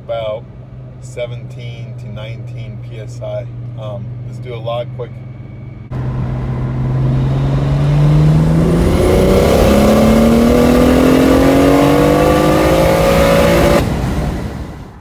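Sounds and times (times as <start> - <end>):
car engine revving at full throttle: 0.2 - 15.0.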